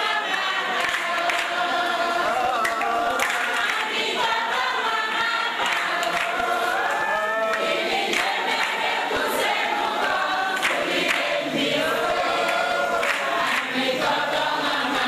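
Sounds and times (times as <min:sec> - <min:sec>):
crowd singing in chorus: 0:00.0 - 0:15.0
hand claps: 0:00.3 - 0:01.8, 0:02.4 - 0:04.4, 0:05.5 - 0:14.5.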